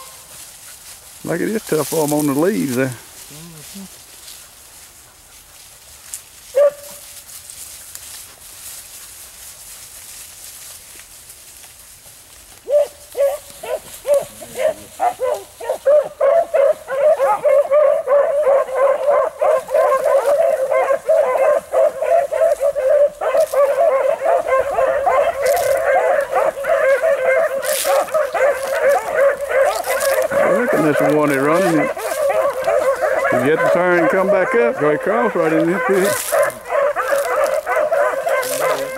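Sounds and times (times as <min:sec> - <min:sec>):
hounds baying: 0:00.0 - 0:05.8, 0:06.4 - 0:07.2, 0:12.6 - 0:38.9.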